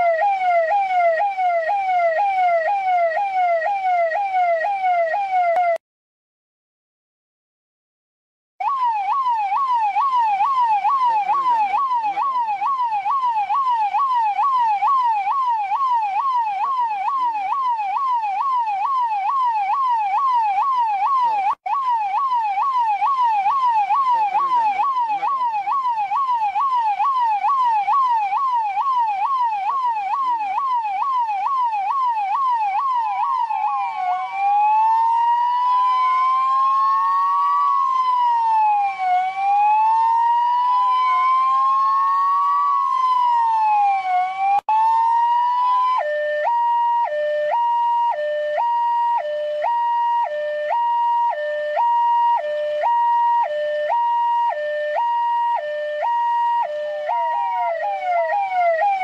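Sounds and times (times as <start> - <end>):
police siren yelping and wailing: 0.0 - 5.8, 8.6 - 59.0.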